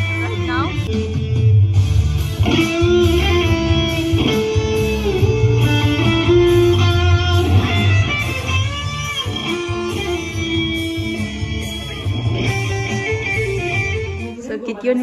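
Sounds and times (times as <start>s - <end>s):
bass line: 0.0s - 14.4s
electric guitar chords: 0.0s - 14.4s.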